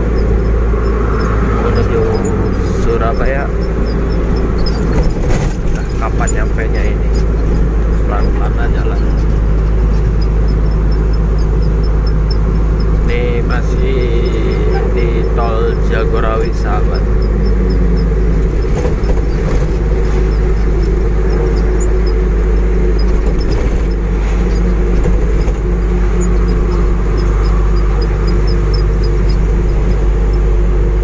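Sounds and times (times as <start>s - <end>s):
truck diesel engine droning: 0.0s - 31.0s
tyre and road noise: 0.0s - 31.0s.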